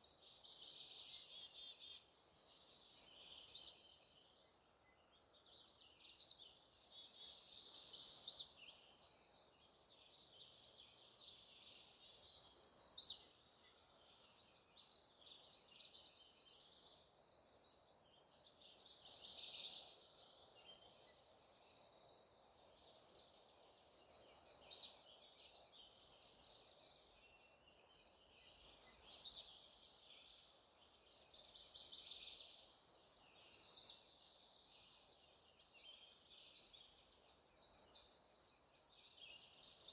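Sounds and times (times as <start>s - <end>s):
chorus of birds: 0.0s - 39.9s
songbird trilled song: 0.1s - 39.9s.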